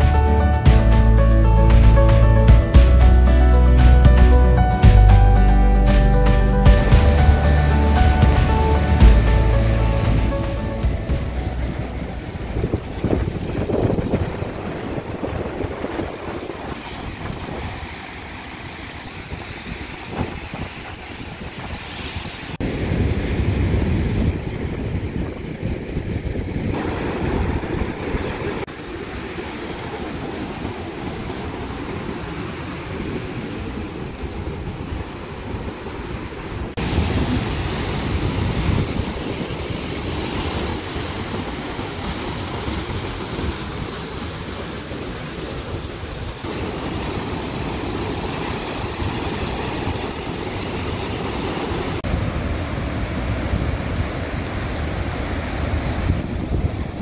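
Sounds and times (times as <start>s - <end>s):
waves breaking: 0.0s - 57.0s
wind rumbling on microphone: 6.8s - 57.0s.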